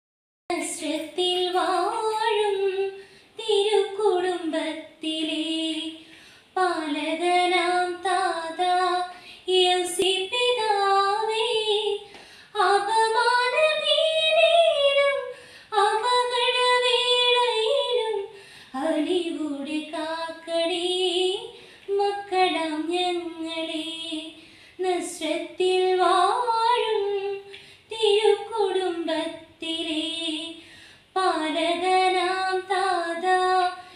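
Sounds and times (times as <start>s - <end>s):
girl singing unaccompanied: 0.5s - 33.9s.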